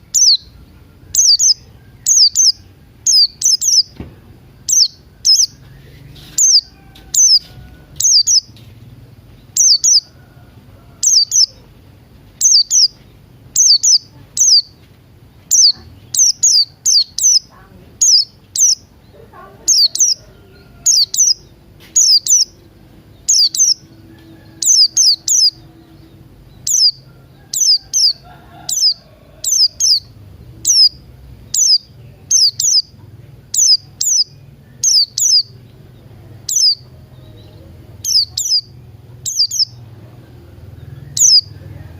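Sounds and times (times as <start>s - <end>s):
songbird chirping: 0.0s - 41.9s.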